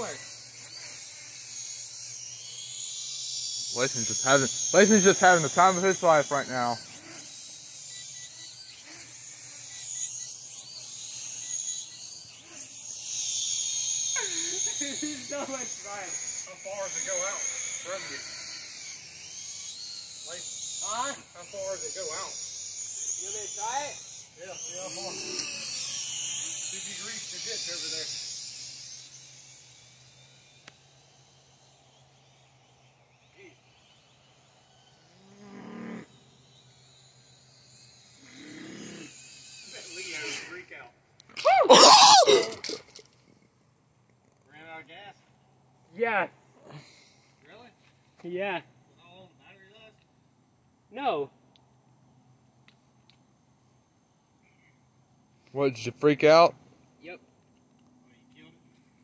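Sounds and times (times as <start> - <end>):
toy drone propellers whining: 0.0 - 50.3, 50.9 - 59.0.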